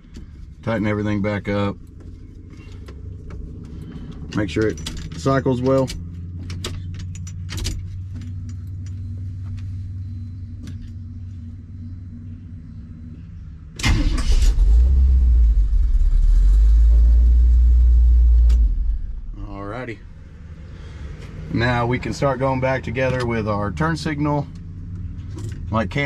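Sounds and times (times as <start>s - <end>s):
steady low hum: 0.0s - 26.0s
truck engine starting and running: 0.0s - 26.0s.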